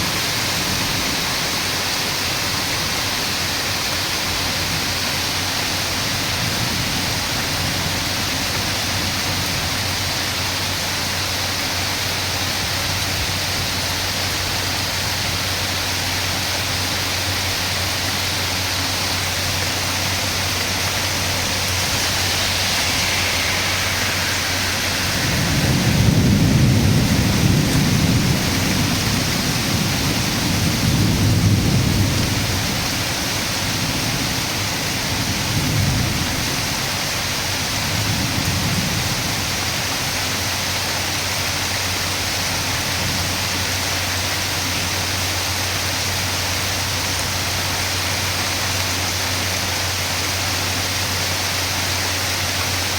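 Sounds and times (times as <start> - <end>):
thunder rumbling: 0.0 - 45.3
heavy rain falling: 0.0 - 52.9.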